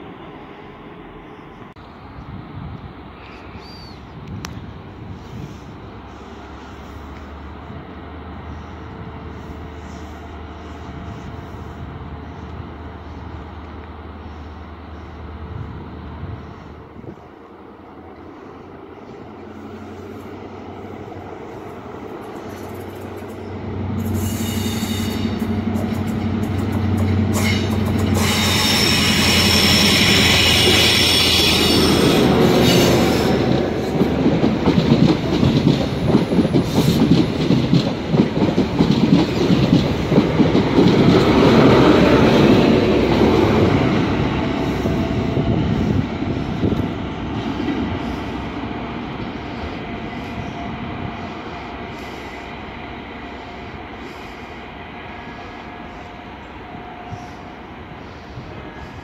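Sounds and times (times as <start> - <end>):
train hum and whine: 0.0 - 59.0.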